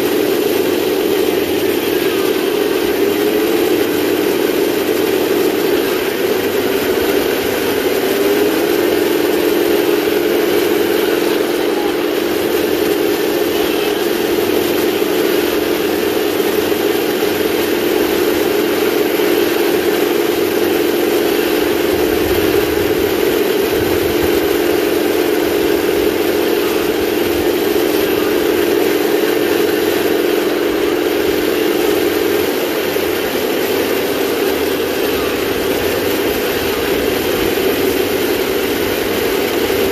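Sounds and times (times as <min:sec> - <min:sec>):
simulated engine through small speaker: 0:00.0 - 0:39.9.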